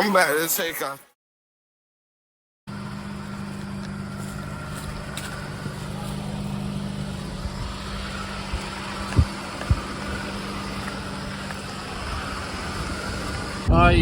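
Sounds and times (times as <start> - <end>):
vehicle engine hum: 2.7 - 14.0.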